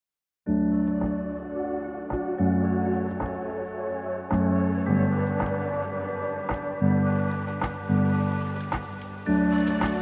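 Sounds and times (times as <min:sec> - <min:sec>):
slow sustained chord music: 0:00.5 - 0:10.0.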